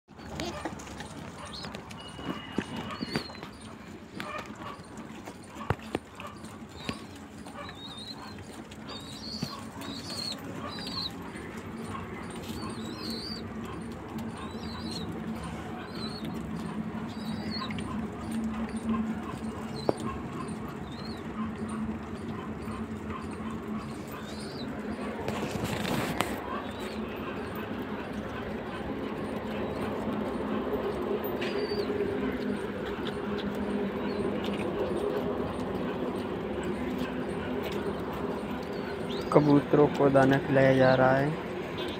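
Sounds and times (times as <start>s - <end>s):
birds chirping: 0.1s - 41.9s
pigeons cooing: 0.1s - 41.9s.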